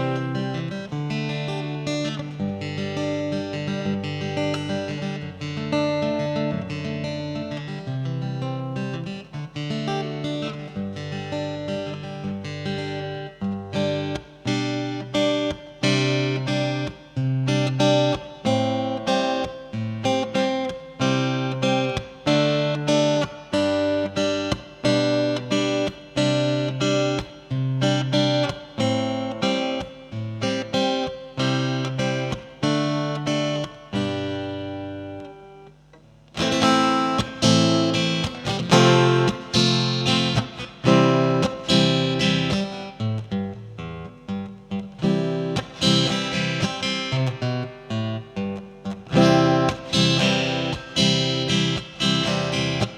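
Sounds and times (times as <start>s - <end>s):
guitar plucked chords: 0.0s - 52.9s.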